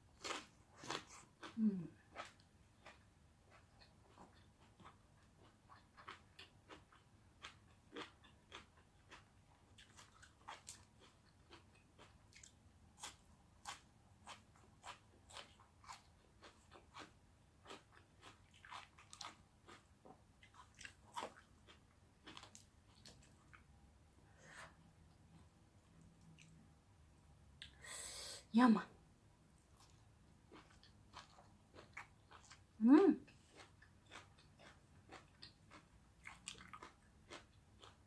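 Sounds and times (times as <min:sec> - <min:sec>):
person chewing crunchy food: 0:00.2 - 0:23.7, 0:29.8 - 0:38.0.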